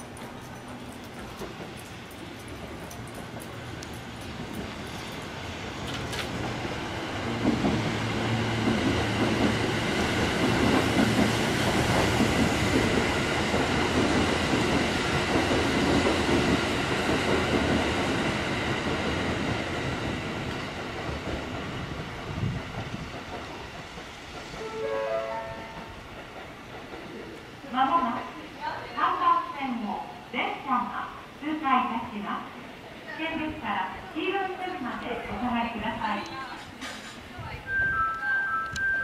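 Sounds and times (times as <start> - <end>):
electric train passing: 0.0 - 39.0.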